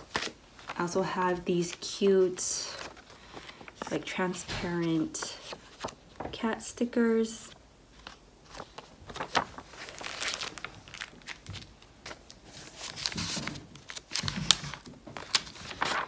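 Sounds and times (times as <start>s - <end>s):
plastic and paper rustling: 0.0s - 6.6s, 7.3s - 16.0s.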